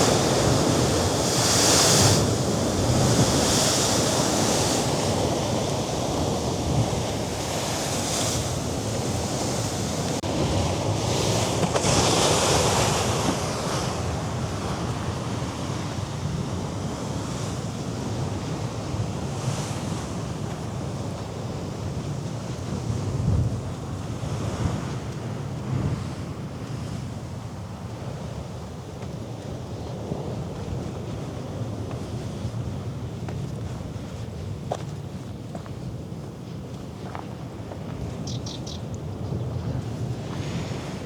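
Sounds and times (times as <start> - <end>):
surf washing against rocks: 0.0 - 38.2, 38.9 - 41.0
wind on microphone: 0.0 - 41.0.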